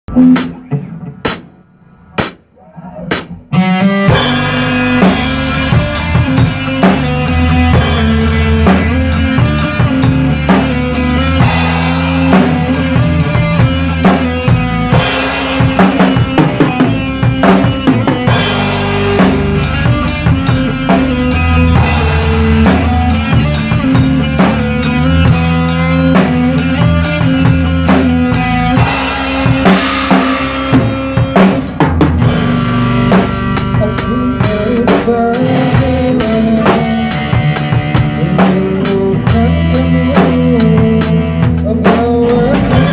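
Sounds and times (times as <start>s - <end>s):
backing music with bass tones: 0.1s - 42.9s
drum kit playing a driving beat: 0.1s - 42.9s.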